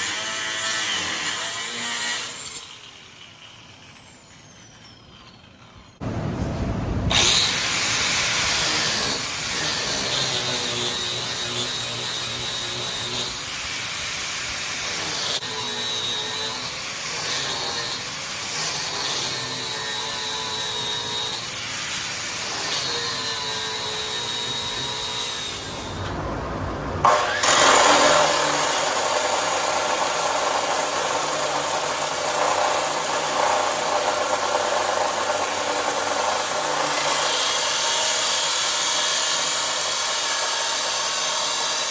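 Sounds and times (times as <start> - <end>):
power tool cutting steel: 0.0 - 6.1, 7.1 - 26.4, 27.0 - 41.9.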